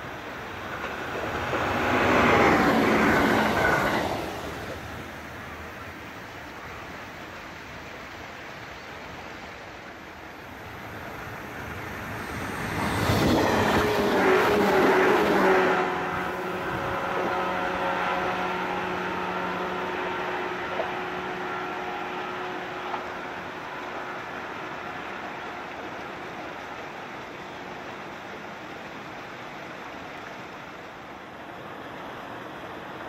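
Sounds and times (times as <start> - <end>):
electric train passing: 0.0 - 33.0
steady train tones: 0.0 - 33.0.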